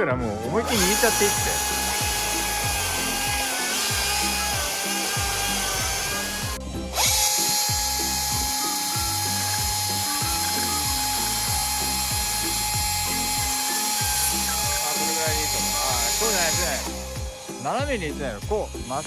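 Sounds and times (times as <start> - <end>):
background music: 0.0 - 19.0
chainsaw cutting wood: 0.0 - 19.0.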